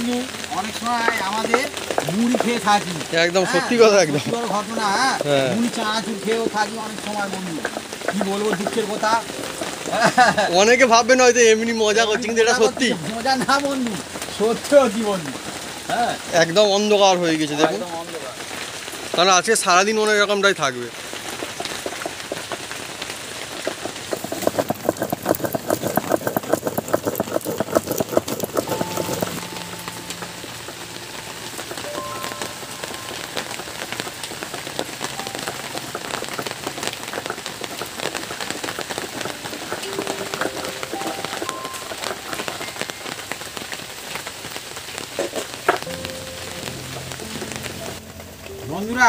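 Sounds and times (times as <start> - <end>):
heavy rain falling: 0.0 - 49.0
raindrops striking close by: 0.0 - 49.0.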